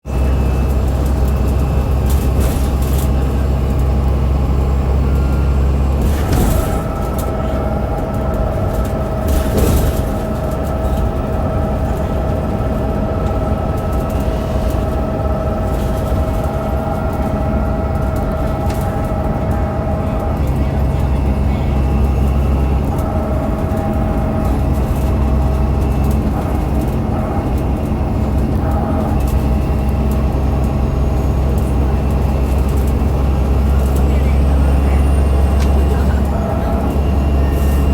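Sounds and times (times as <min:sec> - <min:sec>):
bus diesel engine drone: 0:00.0 - 0:37.9
drive axle whine: 0:00.0 - 0:37.9.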